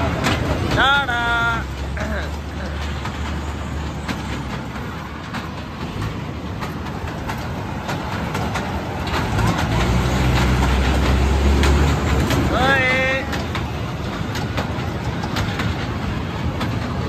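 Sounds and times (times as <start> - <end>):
toy train rumbling: 0.0 - 17.0
wheels clicking on rails: 0.0 - 17.0.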